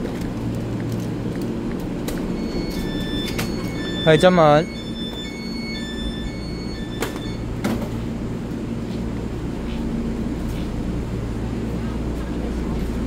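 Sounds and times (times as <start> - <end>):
train equipment humming: 0.0 - 13.0.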